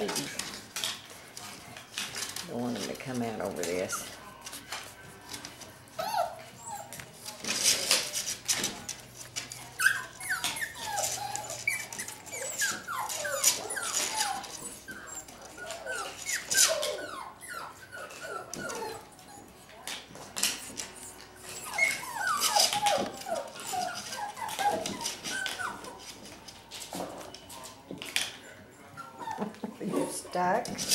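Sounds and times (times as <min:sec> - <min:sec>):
paws scrabbling on pen board: 0:00.0 - 0:28.4, 0:29.1 - 0:30.9
puppies whining and yipping: 0:05.8 - 0:30.9.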